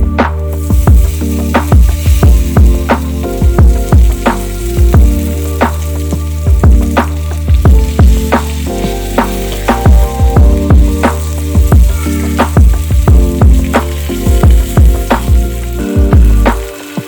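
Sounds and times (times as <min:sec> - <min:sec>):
background music with steady beat: 0:00.0 - 0:17.0
fish sizzling in hot oil: 0:00.0 - 0:17.0.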